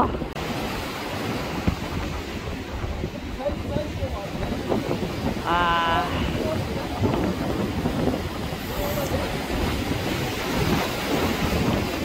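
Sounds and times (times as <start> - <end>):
sea waves splashing on concrete: 0.0 - 12.0
wind buffeting microphone: 0.0 - 12.0.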